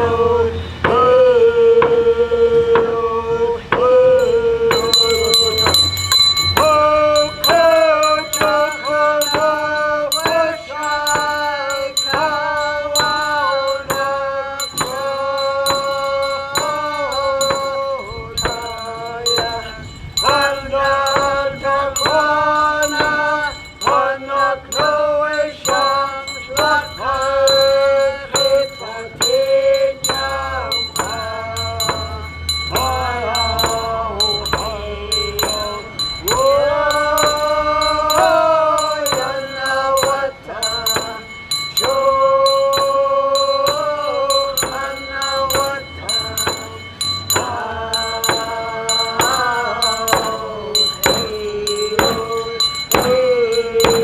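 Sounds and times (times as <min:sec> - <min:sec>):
person singing: 0:00.0 - 0:54.0
shaken percussion beat: 0:03.7 - 0:54.0.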